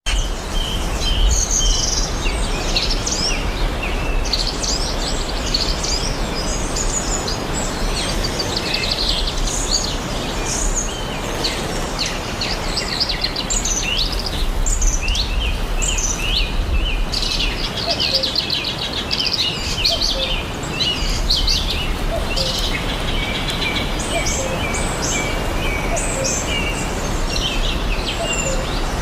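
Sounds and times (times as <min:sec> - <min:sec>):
small birds chirping: 0:00.1 - 0:29.0.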